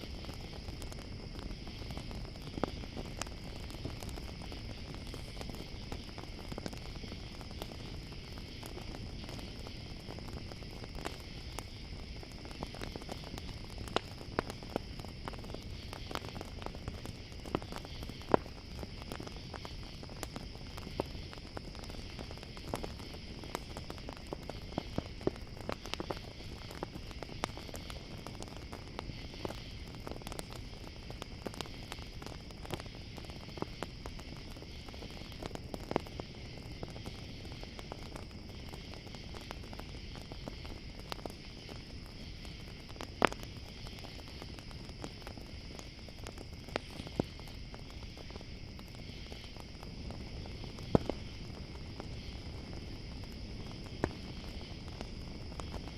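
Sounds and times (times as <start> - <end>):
campfire crackling: 0.0 - 55.9
crickets chirring: 0.0 - 55.9.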